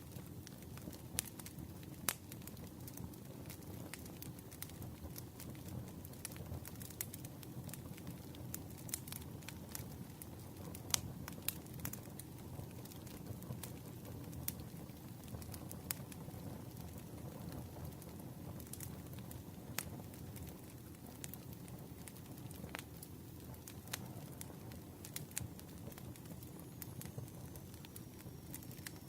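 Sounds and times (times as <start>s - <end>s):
burning wood rumbling: 0.0s - 28.9s
fire pops and snaps: 0.1s - 29.0s.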